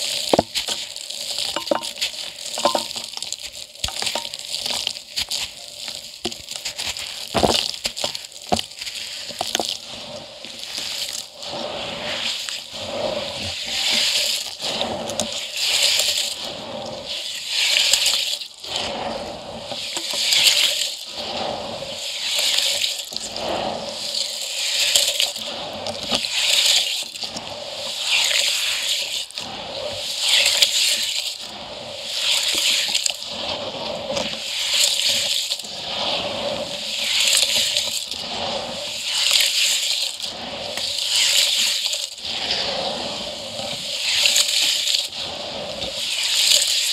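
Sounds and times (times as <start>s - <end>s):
wet concrete slurry squelching: 0.0s - 19.0s, 28.0s - 46.9s.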